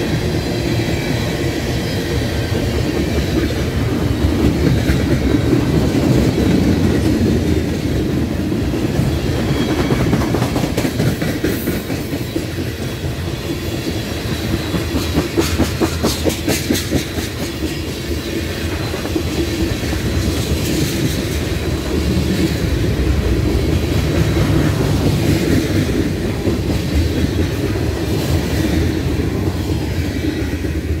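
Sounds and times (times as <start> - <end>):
freight train rumble and rattle: 0.0 - 31.0.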